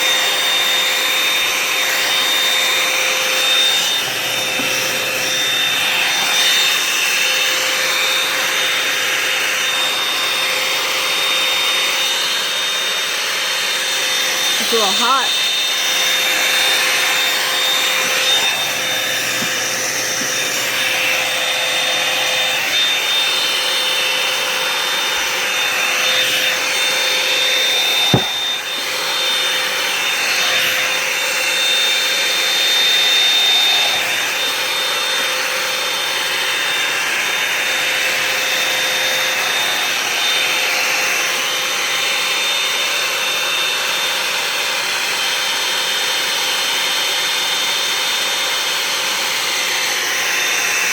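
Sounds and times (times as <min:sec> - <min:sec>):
hair dryer brush running: 0:00.0 - 0:50.9.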